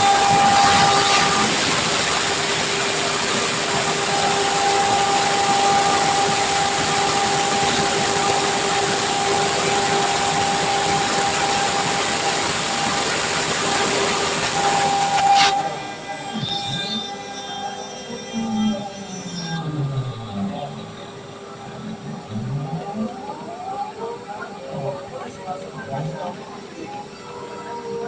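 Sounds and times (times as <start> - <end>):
cnc machine running: 0.0 - 28.0
high-pitched machine whine: 0.0 - 28.0.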